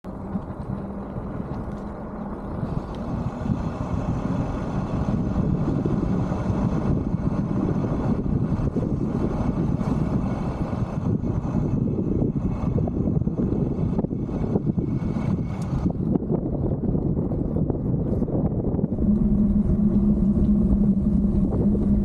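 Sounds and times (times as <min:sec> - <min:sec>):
road noise rumble: 0:00.0 - 0:22.0
wind buffeting microphone: 0:00.0 - 0:22.0.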